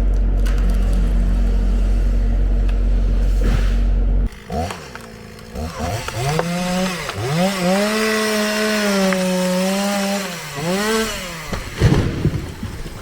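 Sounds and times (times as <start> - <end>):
chainsaw cutting: 0.4 - 11.9.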